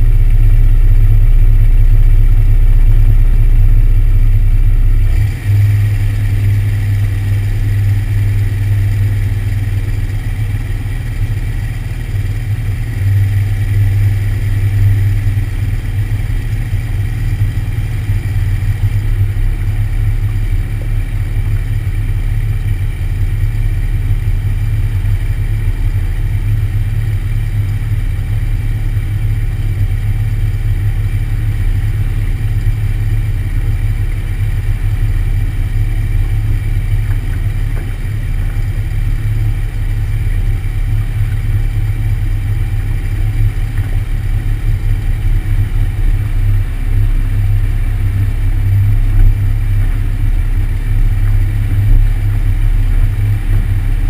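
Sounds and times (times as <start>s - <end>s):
airplane engine and propeller drone: 0.0s - 54.0s.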